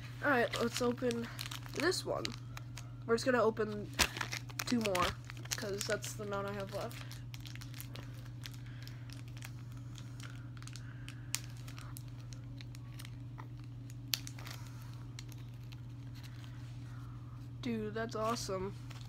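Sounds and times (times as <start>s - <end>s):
low hum: 0.0s - 19.0s
plastic package crinkling and tearing: 0.2s - 3.0s, 3.6s - 16.6s, 18.2s - 19.0s.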